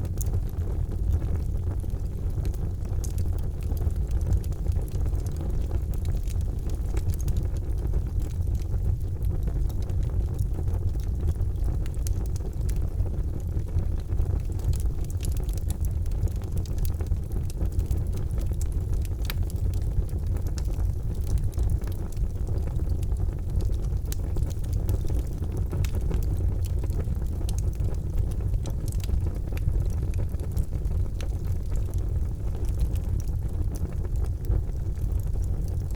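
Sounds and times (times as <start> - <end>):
charcoal fire rumbling: 0.0 - 35.9
fire crackling and popping: 0.0 - 35.9.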